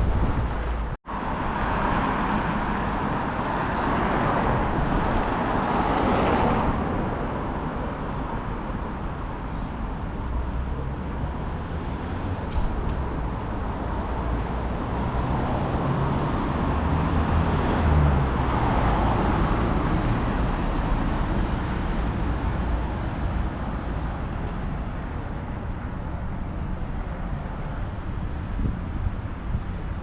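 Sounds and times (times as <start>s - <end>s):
city street traffic: 0.0s - 30.0s.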